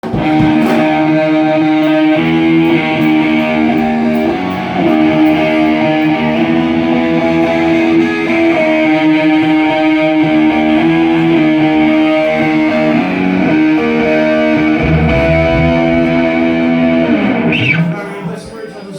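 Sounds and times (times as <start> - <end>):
live rock band music: 0.0 - 18.2
distorted electric guitar: 0.0 - 18.4.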